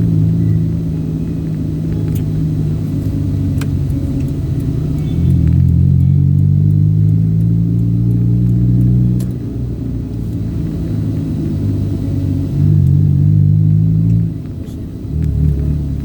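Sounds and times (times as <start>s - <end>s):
vehicle rumble from inside: 0.0s - 16.0s.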